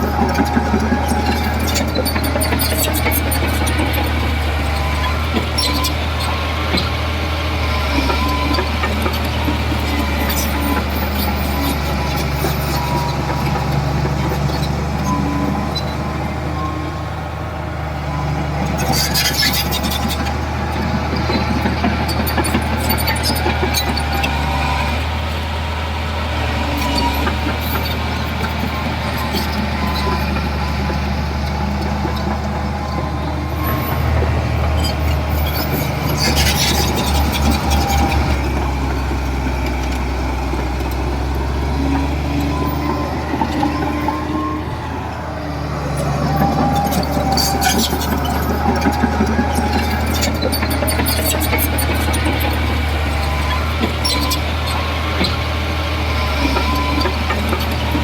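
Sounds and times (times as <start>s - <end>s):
metallic clanks and squeaks: 0.0s - 16.8s, 18.1s - 25.2s, 26.5s - 58.0s
diesel earthmoving machinery running: 0.0s - 58.0s.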